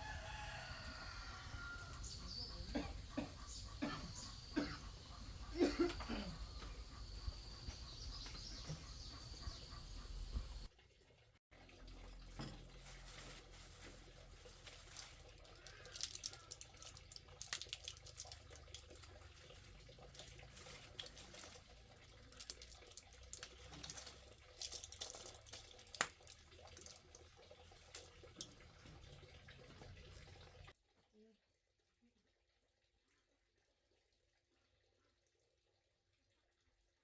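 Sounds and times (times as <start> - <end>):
water splashing and dripping: 0.0 - 30.8.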